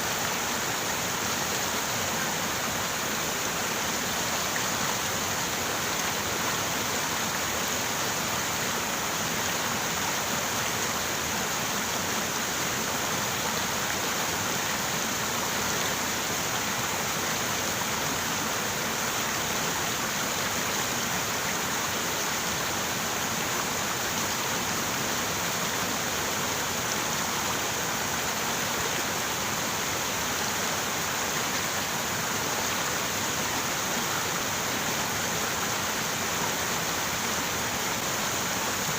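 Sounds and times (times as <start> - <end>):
river water running: 0.0 - 38.9.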